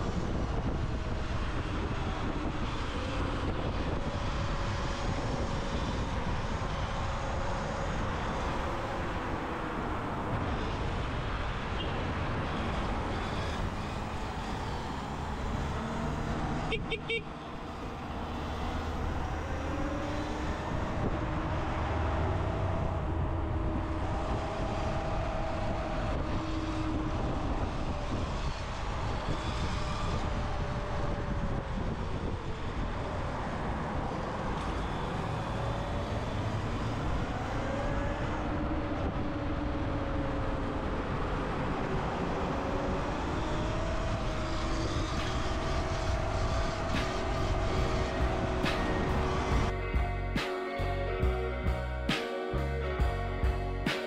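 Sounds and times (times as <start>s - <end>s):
wind rumble on microphone: 0.0s - 52.2s.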